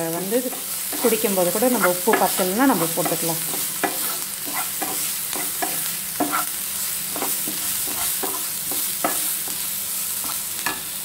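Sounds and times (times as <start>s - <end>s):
vegetables sizzling in oil: 0.0s - 11.0s
spatula scraping frying pan: 0.4s - 10.9s.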